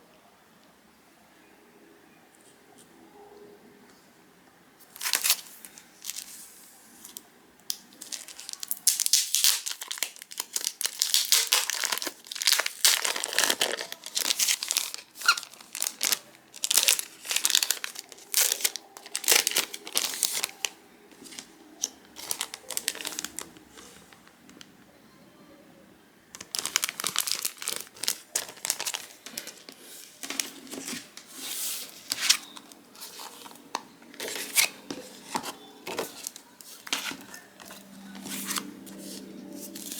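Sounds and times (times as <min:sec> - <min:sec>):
packaging crinkling and tearing: 0:04.9 - 0:06.4, 0:07.0 - 0:24.7, 0:26.4 - 0:39.9.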